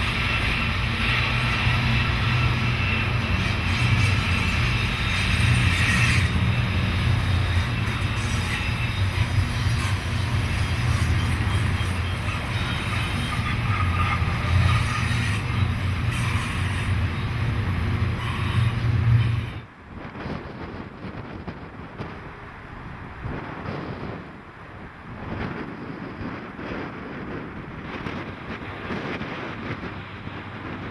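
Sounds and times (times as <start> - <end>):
diesel locomotives droning: 0.0 - 30.9
train wheels on rails: 0.0 - 30.9.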